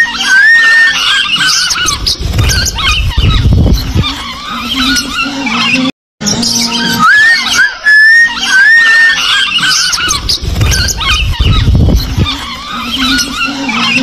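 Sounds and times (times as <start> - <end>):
lovebirds chirping and squawking: 0.0 - 14.0
rising whistled bird calls: 0.0 - 14.0.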